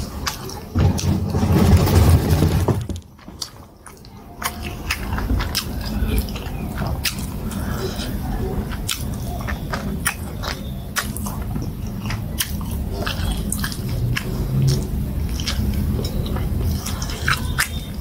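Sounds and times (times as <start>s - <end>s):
wet chewing and lip-smacking: 0.0s - 0.8s, 3.2s - 18.0s.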